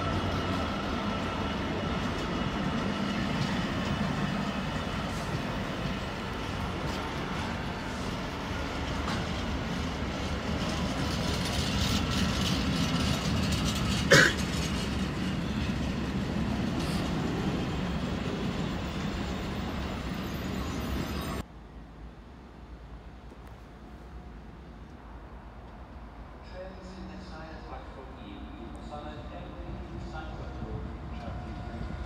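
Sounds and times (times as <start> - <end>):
wheels rumbling on rail: 0.0 - 22.0, 27.0 - 32.0.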